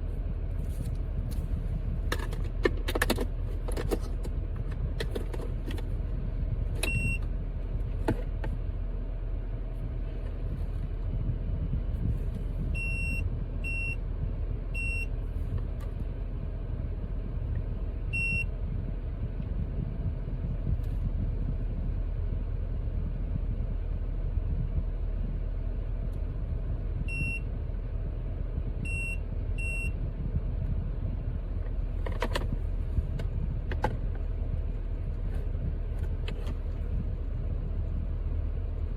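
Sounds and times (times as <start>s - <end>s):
car interior rumble: 0.0s - 38.9s.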